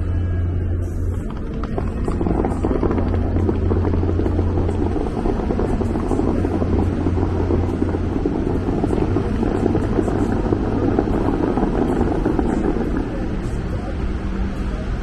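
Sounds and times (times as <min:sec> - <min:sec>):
fountain water jets spraying: 0:00.8 - 0:15.0.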